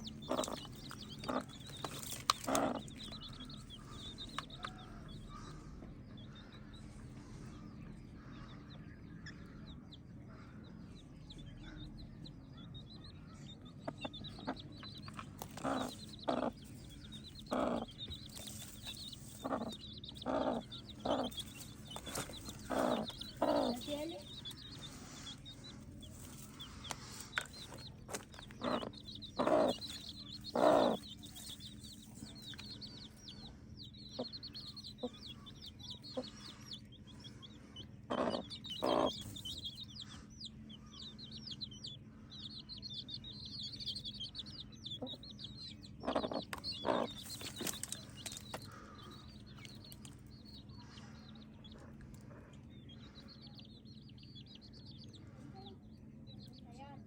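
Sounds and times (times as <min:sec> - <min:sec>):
hen clucking: 0:00.0 - 0:08.7, 0:12.7 - 0:55.9
high-pitched chick peeps: 0:00.0 - 0:57.0.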